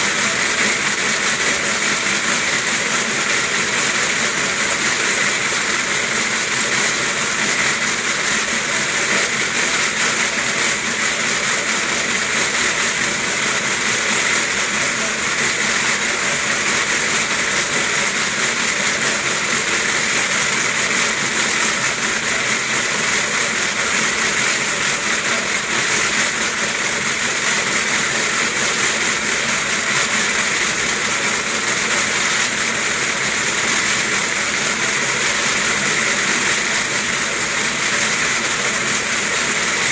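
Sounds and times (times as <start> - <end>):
slat mill running: 0.0 - 39.9.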